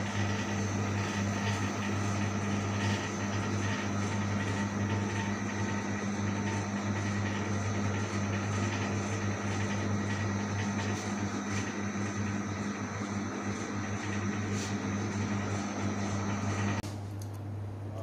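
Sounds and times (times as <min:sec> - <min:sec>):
fan or motor humming: 0:00.0 - 0:18.0.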